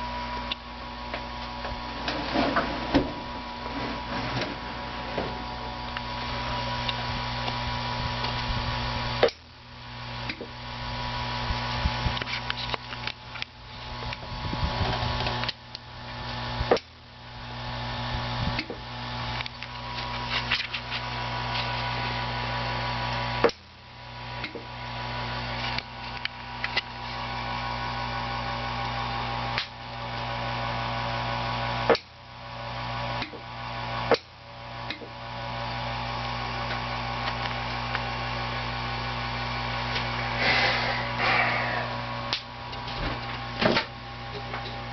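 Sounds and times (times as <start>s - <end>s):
electrical hum and buzz: 0.0s - 44.9s.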